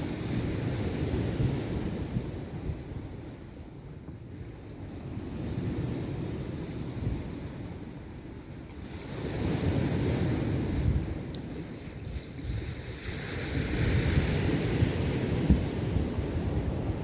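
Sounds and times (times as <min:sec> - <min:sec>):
waves washing onto shore: 0:00.0 - 0:17.0
wind rumbling on microphone: 0:00.0 - 0:17.0.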